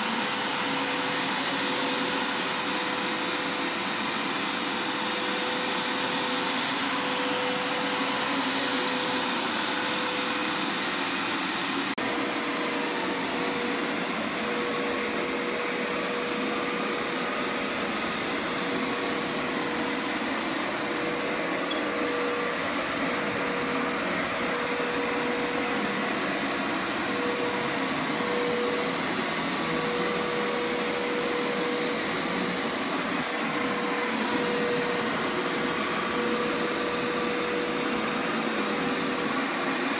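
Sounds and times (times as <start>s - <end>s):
carpet washer motor whining: 0.0s - 39.9s.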